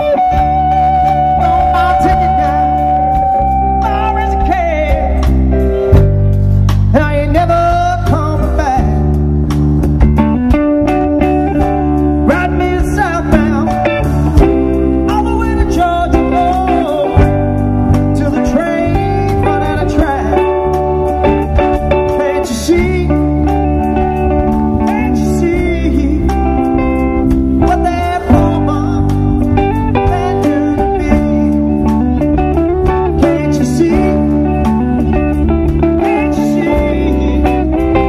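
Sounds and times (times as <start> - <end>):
man singing: 0.0 - 6.0, 6.9 - 9.2, 11.4 - 38.0
bass guitar: 0.0 - 38.0
drums: 0.0 - 38.0
electric guitar: 0.0 - 38.0.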